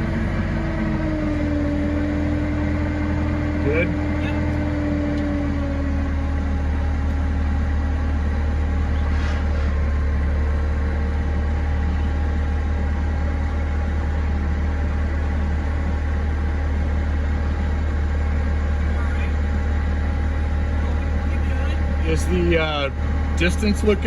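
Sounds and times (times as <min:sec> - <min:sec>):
forklift engine running: 0:00.0 - 0:24.0.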